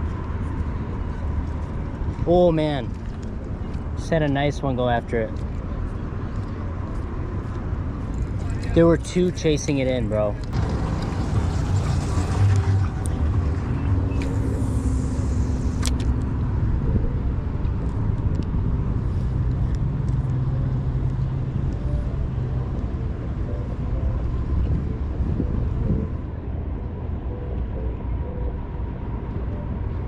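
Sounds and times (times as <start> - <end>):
engine hum: 0.0 - 30.0
traffic rumble: 0.0 - 30.0.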